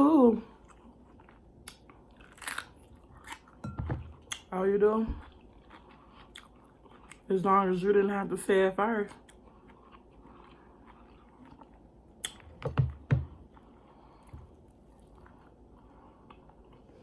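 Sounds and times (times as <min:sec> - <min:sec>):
person chewing food: 0:00.4 - 0:07.6, 0:09.0 - 0:17.0.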